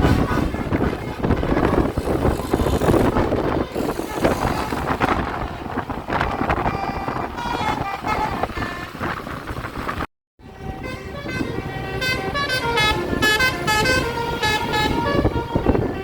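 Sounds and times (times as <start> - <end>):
multi-tone bus horn: 0.0 - 9.1, 10.4 - 16.0
bus and road traffic: 0.0 - 16.0
wind buffeting microphone: 0.0 - 16.0.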